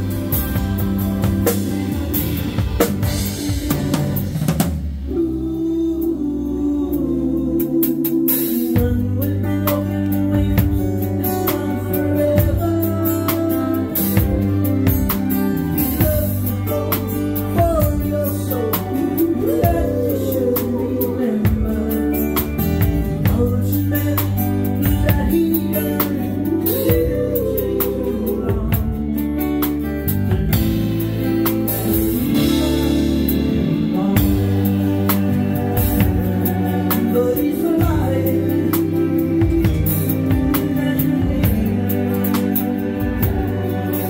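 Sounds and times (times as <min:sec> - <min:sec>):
strummed acoustic guitar: 0:00.0 - 0:04.6, 0:08.4 - 0:44.0
drum kit beat: 0:00.0 - 0:06.1, 0:07.6 - 0:44.0
bass line: 0:00.0 - 0:44.0
man singing: 0:05.0 - 0:44.0.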